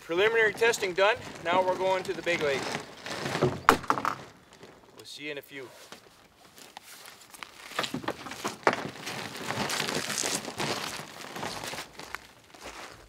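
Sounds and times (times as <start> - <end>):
footsteps crunching on gravel: 0.0 - 13.0
rustling near microphone: 0.0 - 13.0.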